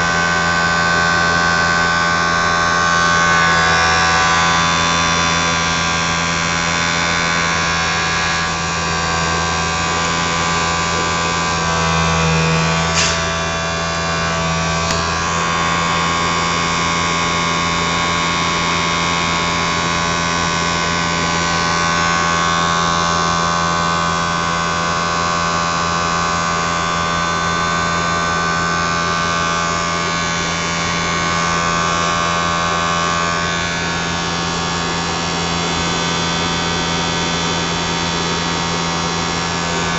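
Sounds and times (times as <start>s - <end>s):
blower motor whirring hum: 0.0s - 39.9s.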